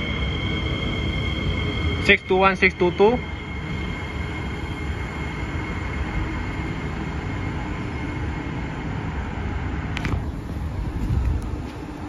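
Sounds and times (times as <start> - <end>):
thin high whine: 0.0 - 12.0
train wheels rumbling on rail: 0.0 - 12.0.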